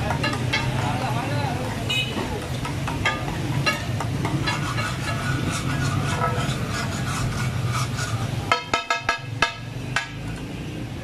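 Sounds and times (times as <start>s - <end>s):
spatula scraping a griddle: 0.0s - 10.3s
spatula clanging on griddle: 0.0s - 10.4s.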